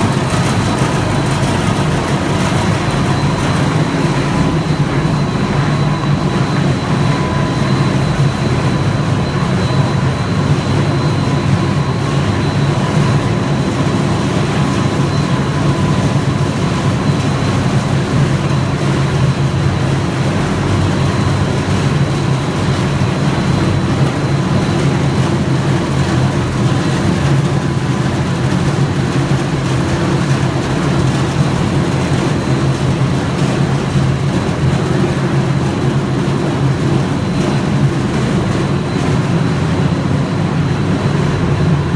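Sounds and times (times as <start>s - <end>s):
factory machinery humming: 0.0s - 41.9s
faint high machine whine: 0.0s - 41.9s.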